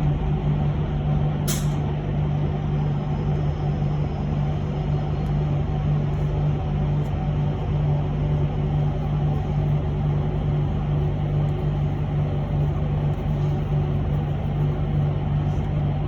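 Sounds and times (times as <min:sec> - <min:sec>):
electric bus hum: 0:00.0 - 0:16.0
road rumble: 0:00.0 - 0:16.0.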